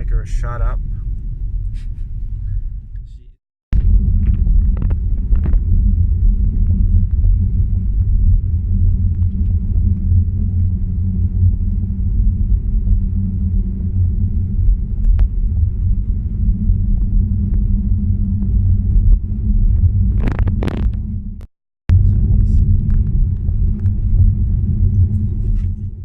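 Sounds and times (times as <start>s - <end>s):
car rumbling over snowy road: 0.0s - 26.0s.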